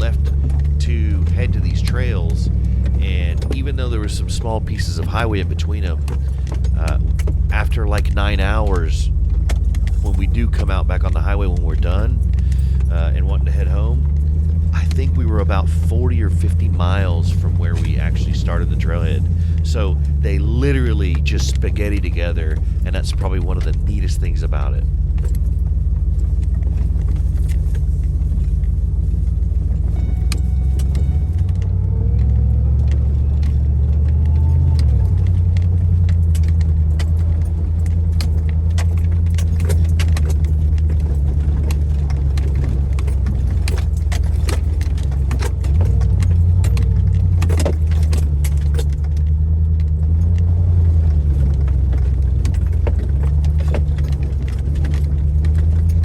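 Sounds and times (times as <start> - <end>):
off-road vehicle engine drone: 0.0 - 56.0
rattles and knocks: 0.0 - 56.0.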